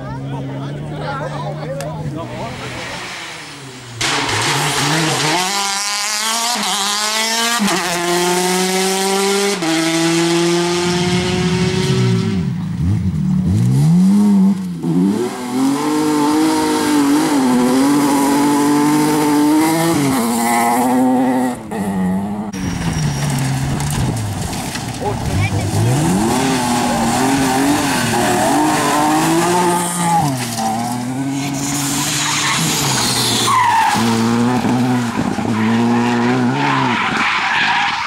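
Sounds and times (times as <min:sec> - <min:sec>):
rally car engine accelerating: 0:00.0 - 0:37.2.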